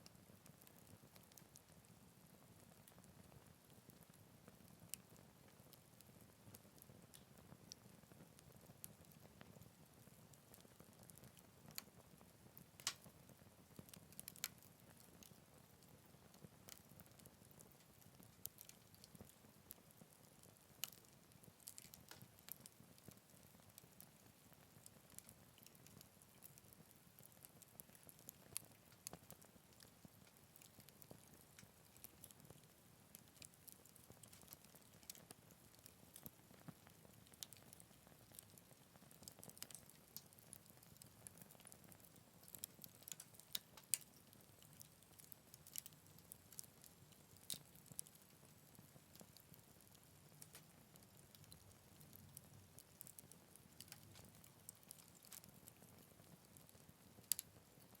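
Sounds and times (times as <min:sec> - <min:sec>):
wood fire crackling faintly: 0:00.0 - 0:58.0.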